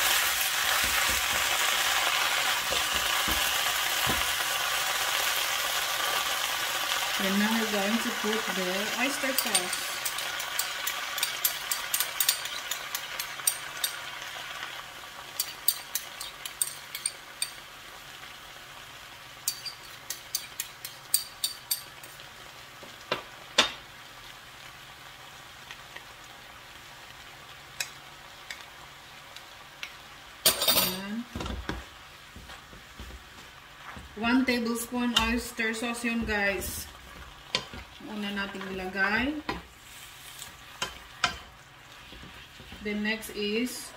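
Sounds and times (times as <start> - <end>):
spinach sizzling in hot oil: 0.0 - 43.9.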